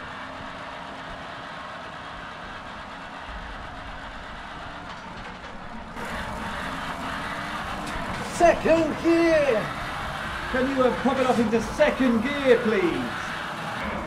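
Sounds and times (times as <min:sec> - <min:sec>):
tank engine rumbling: 0:00.0 - 0:14.0.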